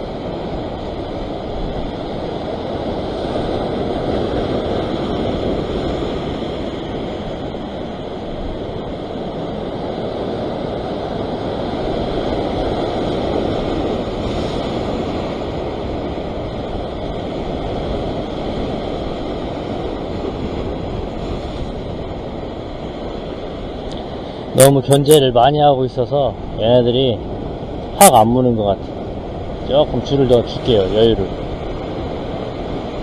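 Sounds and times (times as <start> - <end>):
ocean surf breaking on rocks: 0.0 - 33.0
wind buffeting microphone: 0.0 - 33.0.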